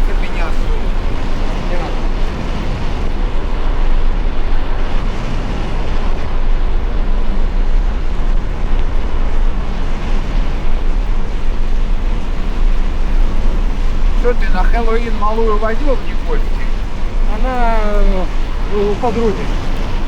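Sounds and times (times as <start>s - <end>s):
bicycle road noise: 0.0s - 20.0s
wind buffeting microphone: 0.0s - 20.0s.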